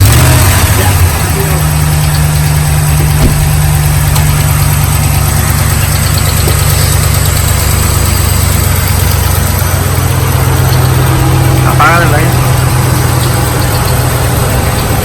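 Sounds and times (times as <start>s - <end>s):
car engine idling: 0.0s - 15.0s
fast engine ticking: 0.0s - 15.0s.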